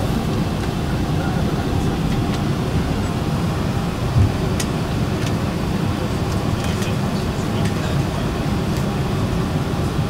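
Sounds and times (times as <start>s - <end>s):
airliner cabin air system rumble: 0.0s - 10.0s.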